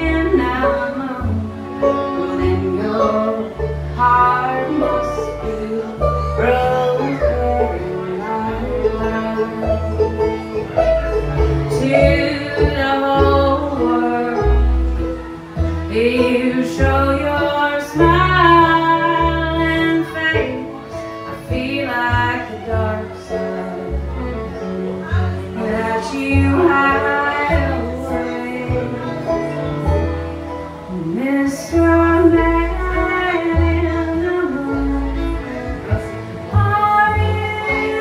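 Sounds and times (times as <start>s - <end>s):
woman singing: 0.0s - 10.1s, 11.6s - 15.2s, 15.8s - 24.4s, 25.0s - 29.7s, 30.8s - 38.0s
acoustic guitar strumming: 0.0s - 38.0s
banjo: 0.0s - 38.0s
fiddle: 0.0s - 38.0s
upright bass: 0.0s - 38.0s.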